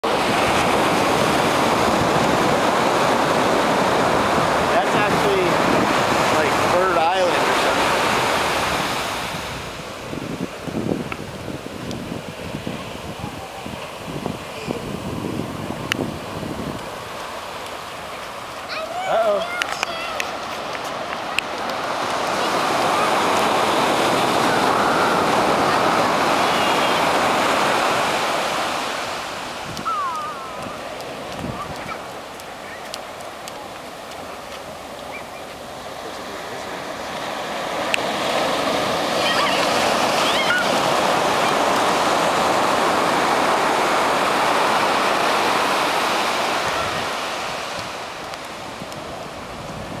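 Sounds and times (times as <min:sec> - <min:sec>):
ocean surf washing onto beach: 0:00.0 - 0:50.0.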